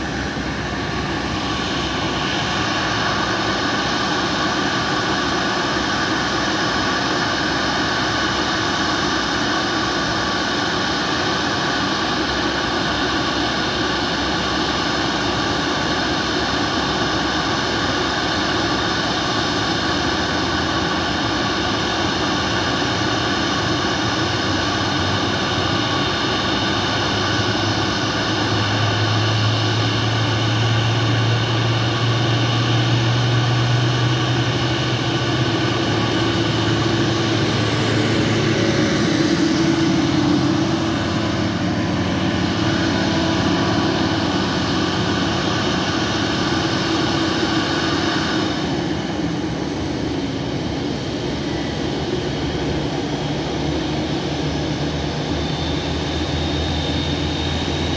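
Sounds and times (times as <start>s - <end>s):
deep steady drone: 0.0s - 57.9s
jet engine whine: 0.0s - 57.9s.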